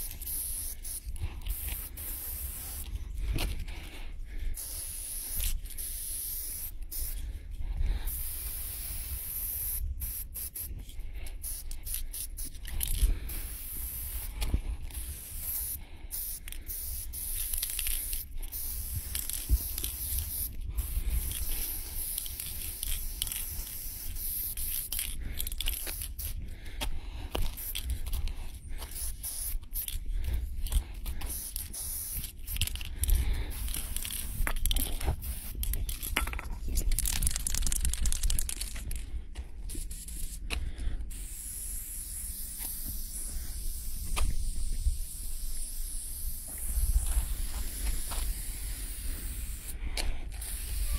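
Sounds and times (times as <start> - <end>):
spray paint can hissing: 0.0 - 26.4, 27.3 - 39.0, 39.7 - 50.9.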